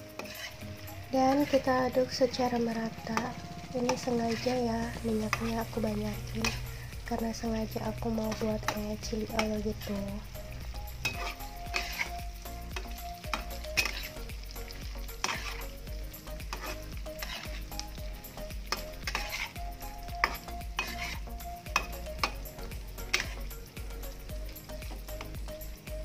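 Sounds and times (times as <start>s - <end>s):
metal spatula scraping a pan: 0.0s - 23.6s
meat sizzling in a wok: 0.0s - 26.0s.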